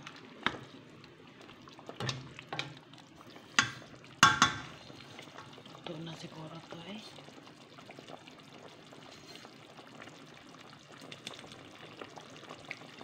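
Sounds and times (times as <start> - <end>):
soup bubbling in a pot: 0.0 - 13.0.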